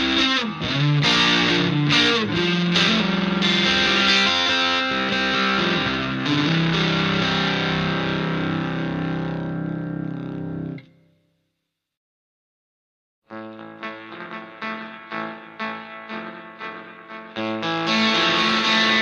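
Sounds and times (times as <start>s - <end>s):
distorted electric guitar: 0.0s - 10.8s, 13.3s - 19.0s.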